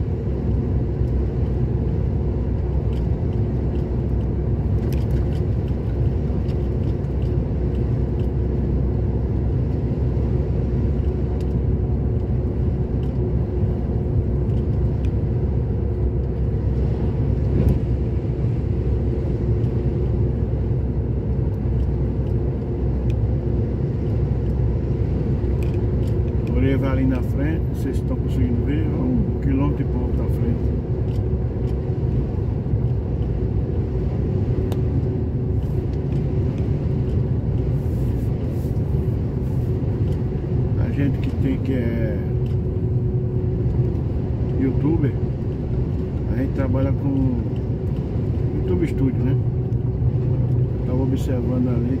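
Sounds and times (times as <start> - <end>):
low road rumble: 0.0 - 52.0
vehicle engine running: 0.0 - 52.0.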